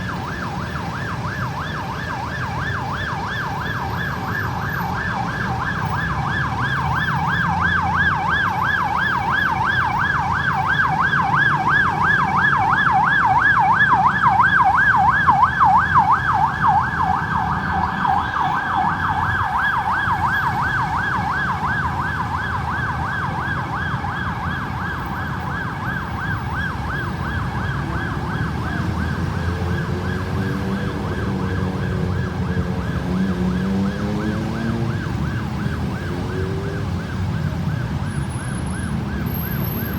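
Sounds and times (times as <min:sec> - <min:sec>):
ambulance siren yelp: 0:00.0 - 0:39.9
lower sweeping siren: 0:00.0 - 0:39.9
road traffic rumble: 0:00.0 - 0:39.9.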